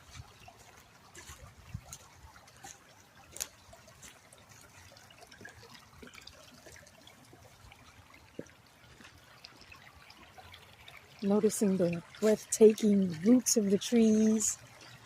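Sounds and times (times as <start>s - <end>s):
water trickling over rocks: 0.0s - 15.0s.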